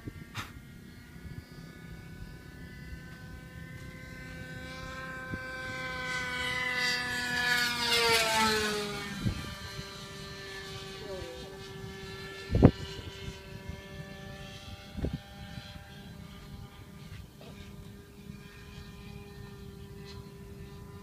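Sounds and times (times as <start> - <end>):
model airplane engine buzzing: 0.0 - 21.0.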